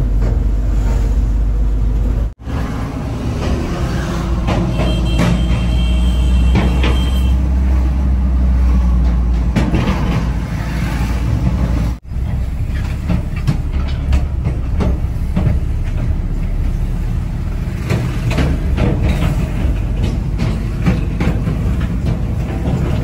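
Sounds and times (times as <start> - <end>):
vehicle road noise rumble: 0.0 - 23.0
vehicles passing: 0.0 - 23.0.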